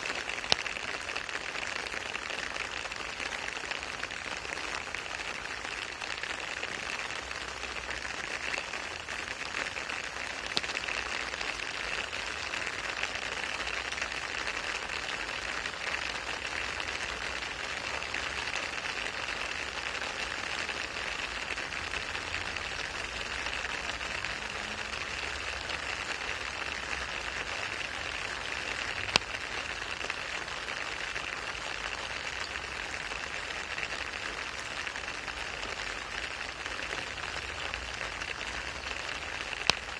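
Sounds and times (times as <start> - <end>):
rain on wet asphalt: 0.0 - 39.9.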